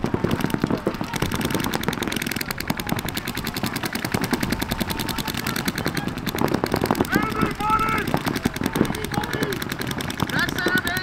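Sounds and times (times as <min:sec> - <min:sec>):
paintball markers firing rapidly: 0:00.0 - 0:11.0.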